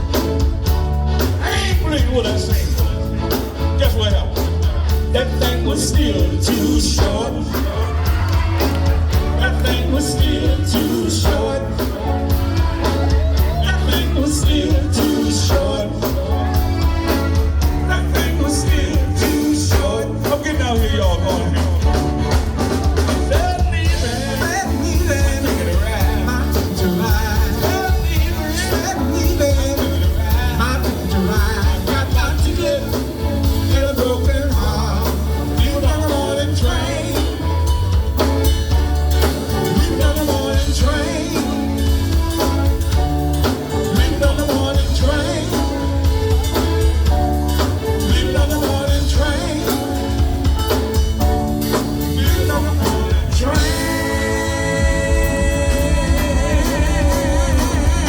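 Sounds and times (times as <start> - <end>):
live band music: 0.0 - 58.0.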